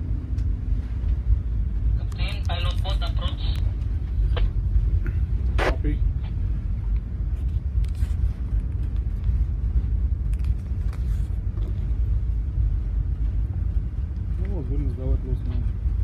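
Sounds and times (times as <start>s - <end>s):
ship engine drone: 0.0s - 16.0s.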